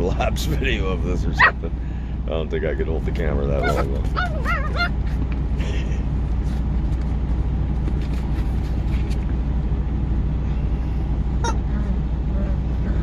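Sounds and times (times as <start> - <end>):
engine idling low hum: 0.0 - 13.0.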